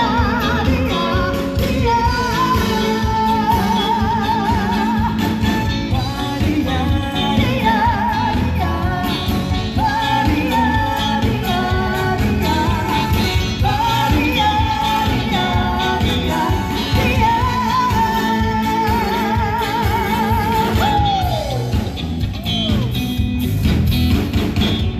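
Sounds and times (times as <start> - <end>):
pop song with band: 0.0 - 24.9.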